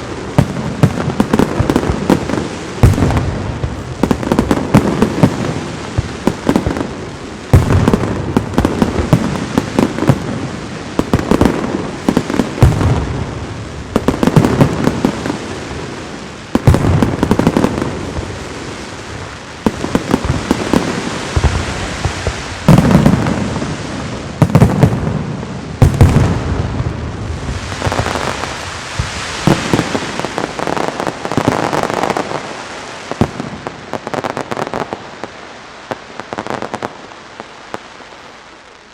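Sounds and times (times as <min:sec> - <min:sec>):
dense fireworks crackling: 0:00.0 - 0:38.9.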